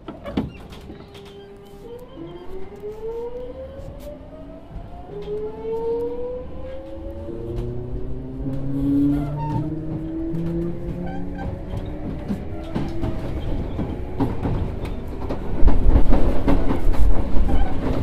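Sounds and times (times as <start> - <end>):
electric train inverter whining: 0.8 - 18.0.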